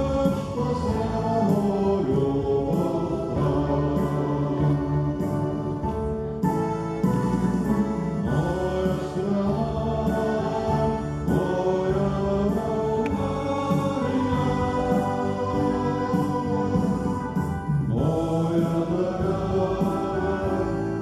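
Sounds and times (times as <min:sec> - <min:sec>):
man singing into microphone: 0:00.0 - 0:05.4, 0:07.6 - 0:21.0
voices singing together: 0:00.0 - 0:06.0, 0:07.5 - 0:21.0
amplified backing music: 0:00.0 - 0:21.0.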